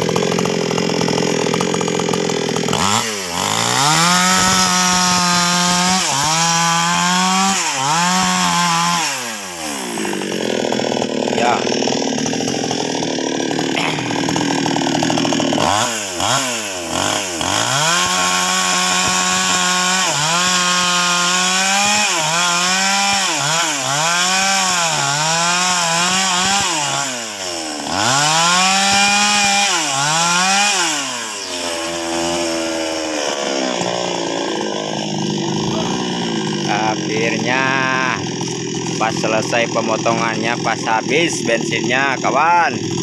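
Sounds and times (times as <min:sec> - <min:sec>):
chainsaw cutting log: 0:00.0 - 0:43.0
chainsaw idling: 0:00.0 - 0:43.0.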